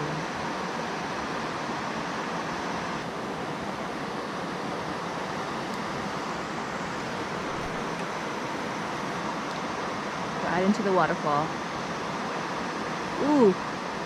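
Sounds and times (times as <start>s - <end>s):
small waterfall rushing: 0.0s - 14.0s.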